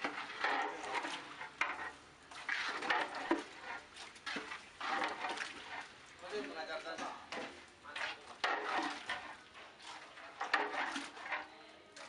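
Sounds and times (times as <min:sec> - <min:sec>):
ladle stirring in pot: 0:00.0 - 0:12.0
liquid sloshing: 0:00.0 - 0:12.0.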